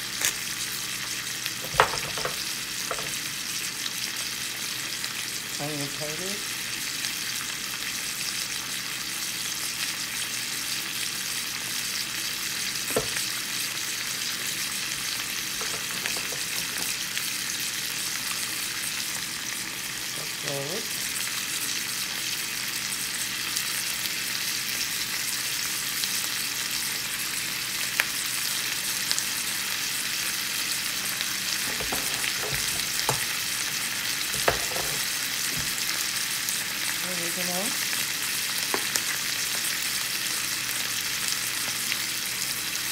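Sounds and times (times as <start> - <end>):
vegetables sizzling in a pan: 0.0 - 42.9.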